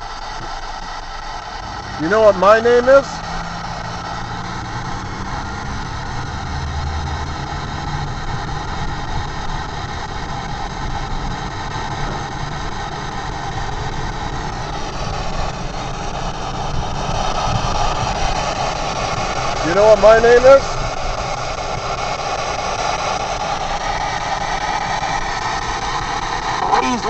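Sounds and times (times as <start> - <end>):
car engine hum: 0.0 - 27.0
road noise hiss: 0.0 - 27.0.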